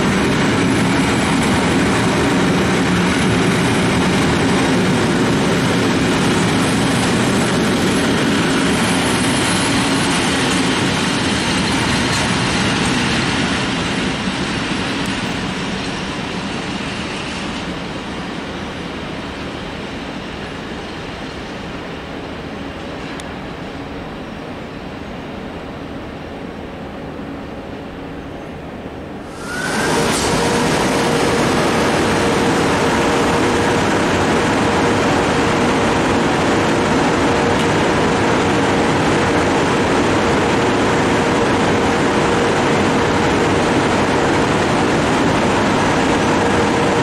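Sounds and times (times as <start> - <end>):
freight train rumbling past: 0.0 - 47.0.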